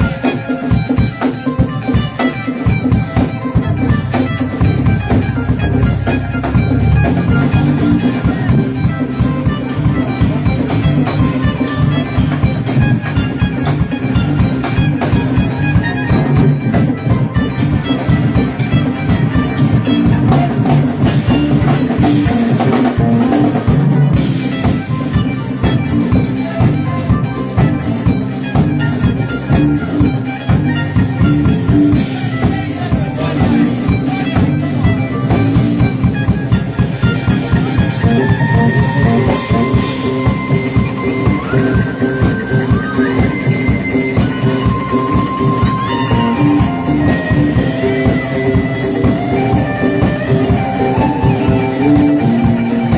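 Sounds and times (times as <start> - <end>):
drum kit beat: 0.0 - 52.9
held lead notes: 0.0 - 52.9
live band playing: 0.0 - 52.9.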